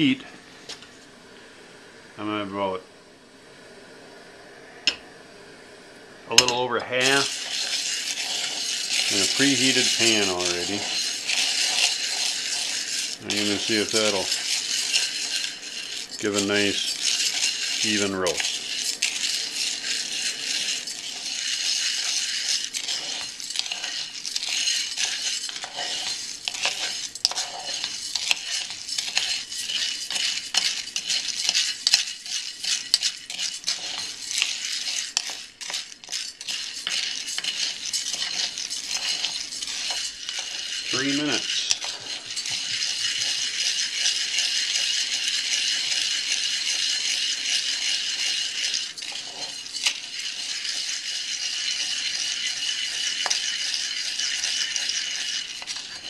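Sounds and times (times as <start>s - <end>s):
coffee beans rattling in iron pan: 6.3s - 56.0s
wooden stirrer scraping pan: 6.3s - 56.0s.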